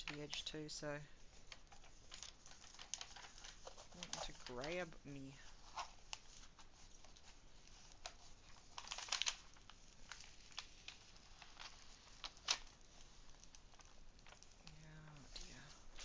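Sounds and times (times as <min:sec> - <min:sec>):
plastic film clicking and crinkling: 0:00.0 - 0:16.0.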